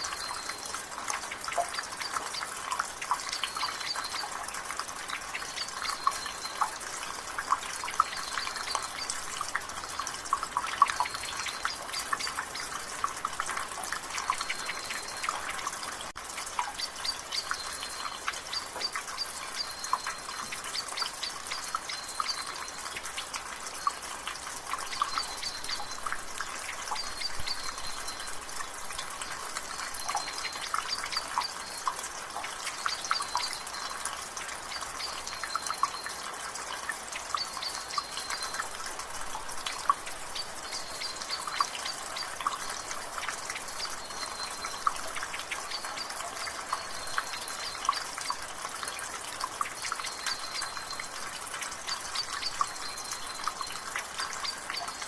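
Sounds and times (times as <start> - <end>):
light rain hiss: 0.0 - 55.0
water dripping from gutter: 0.0 - 55.0.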